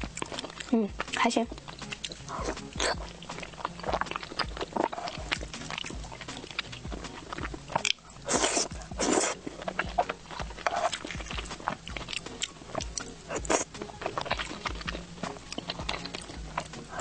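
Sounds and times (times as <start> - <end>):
wet chewing mouth sounds: 0.0 - 17.0.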